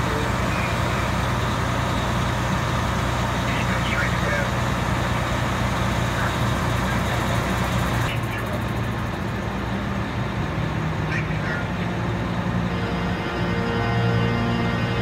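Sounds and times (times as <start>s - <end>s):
fire truck engines humming: 0.0s - 15.0s
outdoor noise: 0.0s - 15.0s.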